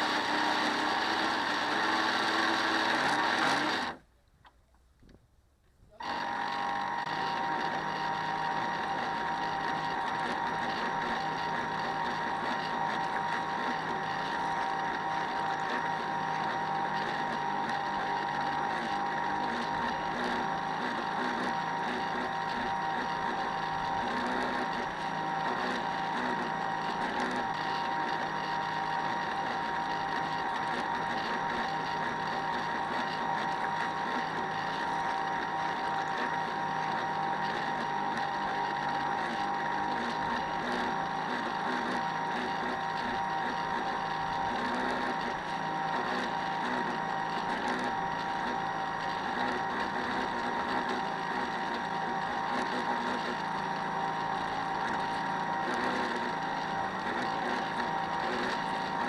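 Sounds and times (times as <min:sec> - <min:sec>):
model boat motor whine: 0:00.0 - 0:05.2, 0:05.8 - 0:59.0.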